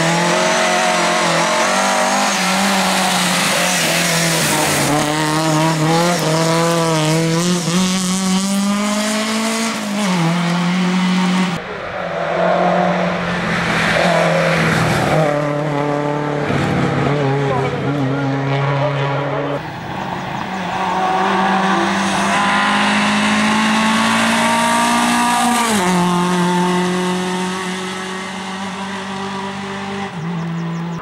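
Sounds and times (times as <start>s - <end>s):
rally car engine at high revs: 0.0s - 11.6s, 12.5s - 19.6s, 20.2s - 31.0s.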